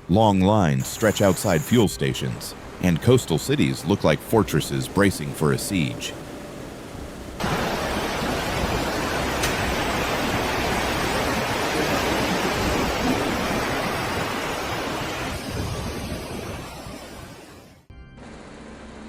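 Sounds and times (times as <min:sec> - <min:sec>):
storm wind and water rushing: 0:00.0 - 0:17.9.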